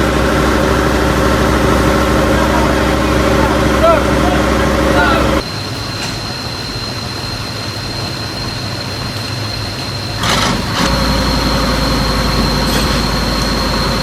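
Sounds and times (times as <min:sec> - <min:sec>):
heavy vehicle engine running: 0:00.0 - 0:14.0
high whine: 0:00.0 - 0:14.0.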